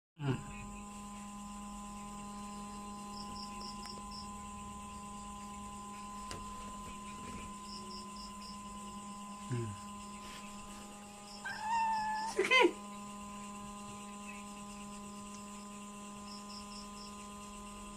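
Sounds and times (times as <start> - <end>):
cricket chirping: 0.2 - 17.9
electrical hum: 0.2 - 17.9.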